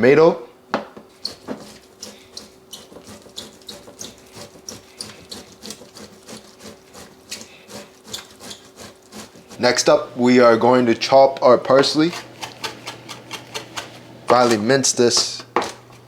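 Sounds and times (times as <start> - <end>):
tomato rasping on a grater: 1.1 - 15.5.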